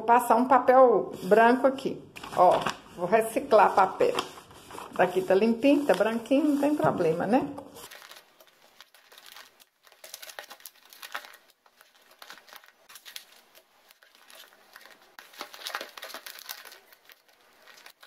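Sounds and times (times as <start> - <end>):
paper rustling and crinkling: 2.2 - 18.0.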